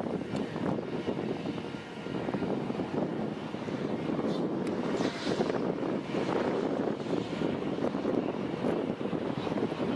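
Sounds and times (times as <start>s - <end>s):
diesel engine droning: 0.0s - 9.9s
wind noise on microphone: 0.0s - 9.9s.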